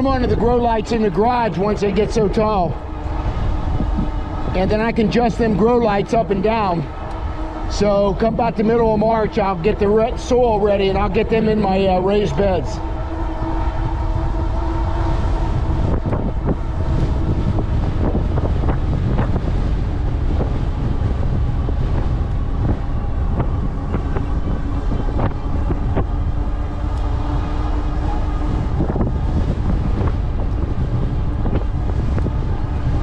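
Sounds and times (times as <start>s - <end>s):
faint steady whine: 0.0s - 33.0s
wind buffeting microphone: 0.0s - 33.0s.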